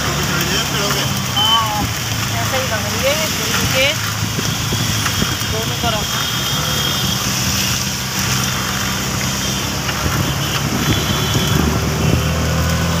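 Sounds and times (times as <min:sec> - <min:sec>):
auto-rickshaw engine running: 0:00.0 - 0:13.0
heavy rain hiss: 0:00.0 - 0:13.0.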